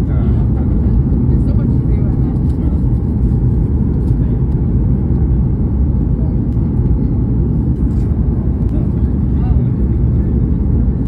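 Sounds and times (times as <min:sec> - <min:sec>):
jet airliner cabin rumble: 0:00.0 - 0:11.0.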